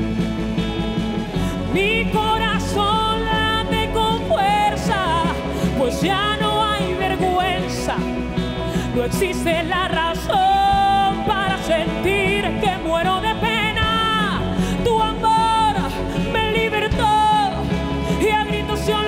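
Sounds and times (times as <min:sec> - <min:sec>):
band accompaniment with bass: 0:00.0 - 0:19.0
wordless lead melody with vibrato: 0:00.0 - 0:19.0.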